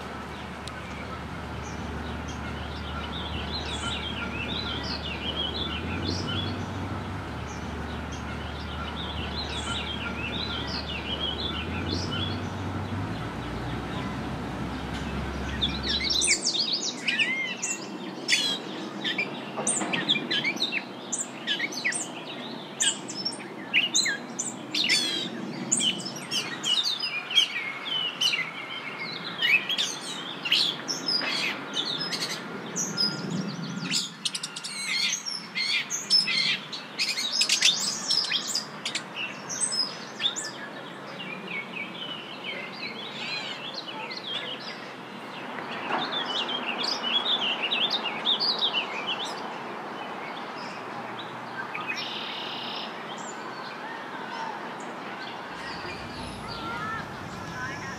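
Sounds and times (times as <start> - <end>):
songbirds singing: 0.0 - 57.9.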